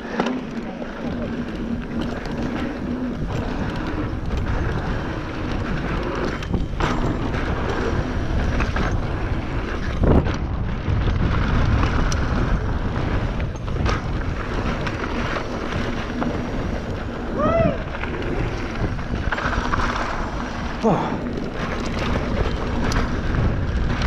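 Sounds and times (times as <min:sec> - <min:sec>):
mountain bike rattling on dirt trail: 0:00.0 - 0:24.0
wind buffeting microphone: 0:00.0 - 0:24.0.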